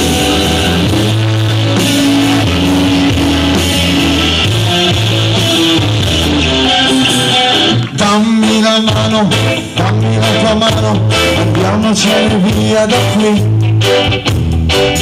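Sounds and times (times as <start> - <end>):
bass line: 0.0 - 15.0
drums: 0.0 - 15.0
electric guitar: 0.0 - 15.0.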